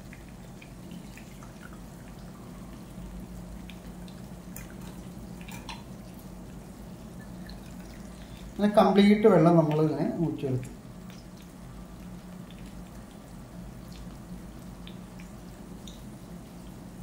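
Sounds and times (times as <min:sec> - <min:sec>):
steady low hum: 0:00.0 - 0:17.0
water trickling and dripping: 0:00.0 - 0:17.0.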